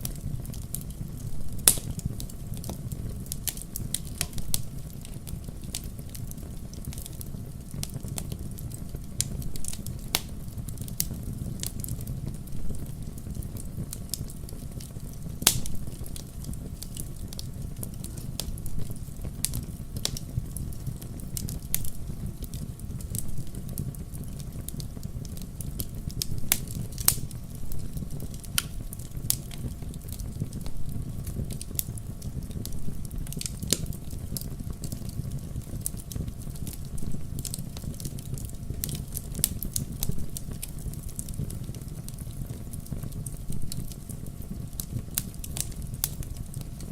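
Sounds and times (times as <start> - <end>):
fire crackling: 0.0 - 46.9
fire pops and snaps: 0.0 - 46.9
low rumble of flames: 0.0 - 46.9.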